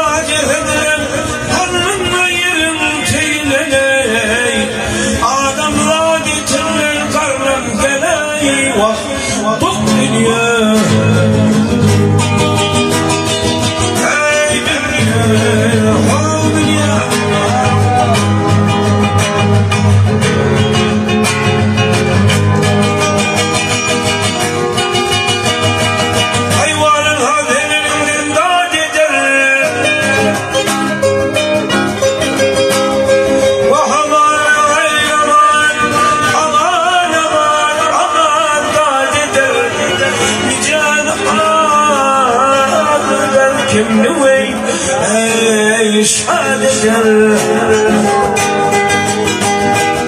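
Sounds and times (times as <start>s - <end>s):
man singing: 0.0s - 19.2s, 26.1s - 31.1s, 31.9s - 50.0s
acoustic guitars: 0.0s - 50.0s.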